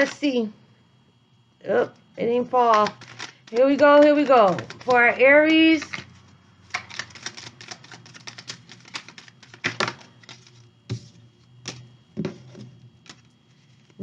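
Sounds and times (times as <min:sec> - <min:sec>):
cards being shuffled: 0:00.0 - 0:00.2, 0:02.6 - 0:14.0.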